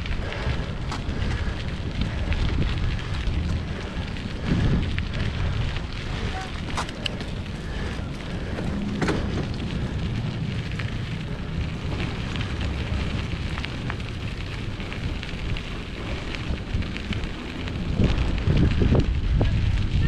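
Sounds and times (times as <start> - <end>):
crackles and ticks: 0.0 - 20.0
wind buffeting the microphone: 0.0 - 20.0.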